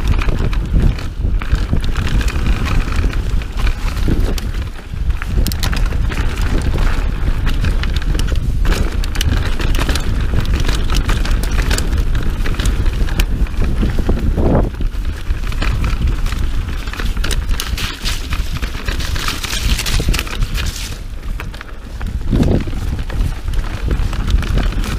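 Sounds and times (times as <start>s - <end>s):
bike rattling and knocking: 0.0s - 24.9s
bike tyres rolling on dirt: 0.0s - 24.9s
wind rumble on microphone: 0.0s - 24.9s.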